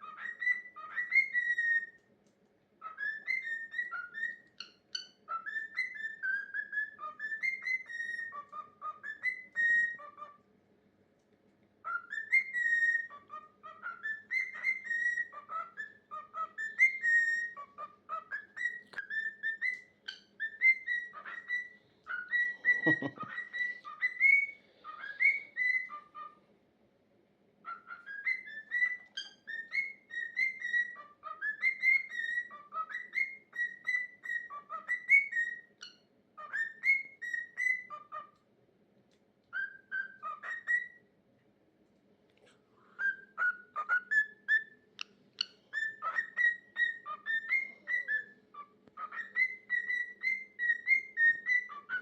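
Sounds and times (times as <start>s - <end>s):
cockatiel whistling: 0.0s - 2.0s, 2.8s - 10.4s, 11.8s - 26.4s, 27.6s - 38.4s, 39.5s - 41.0s, 42.9s - 52.0s.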